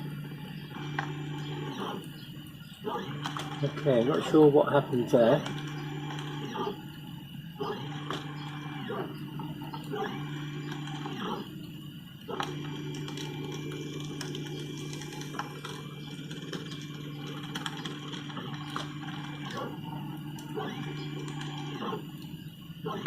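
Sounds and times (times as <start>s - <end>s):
stepper motors whining: 0.0s - 23.0s.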